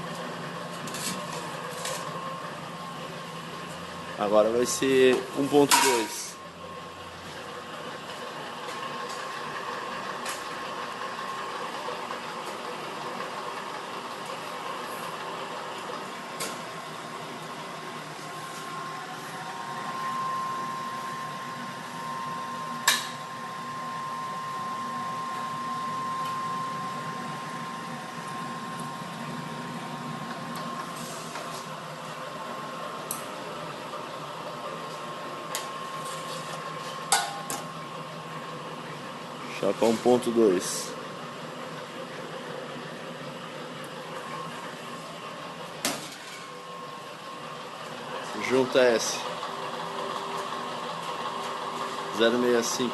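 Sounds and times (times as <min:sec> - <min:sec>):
machine motor hum: 0:00.0 - 0:52.9.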